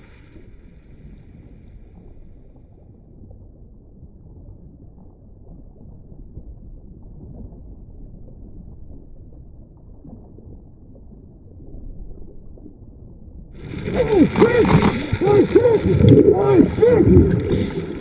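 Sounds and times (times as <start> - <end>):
muffled underwater rumble: 0.0 - 18.0.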